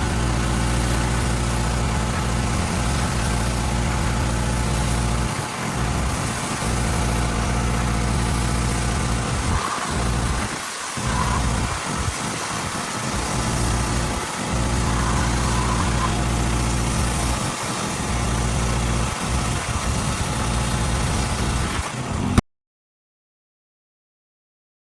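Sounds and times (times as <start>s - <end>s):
water spray hissing: 0.0s - 21.8s
pressure washer engine humming: 0.0s - 22.4s.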